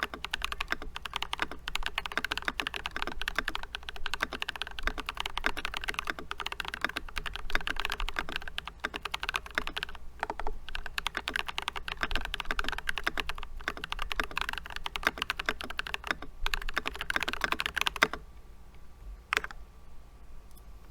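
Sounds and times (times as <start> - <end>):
fast mechanical keyboard typing: 0.0 - 18.2, 19.3 - 19.6.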